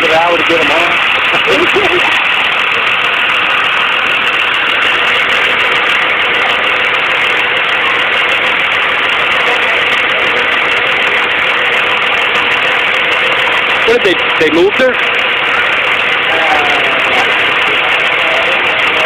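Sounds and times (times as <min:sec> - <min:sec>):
bus engine idling: 0:00.0 - 0:19.0.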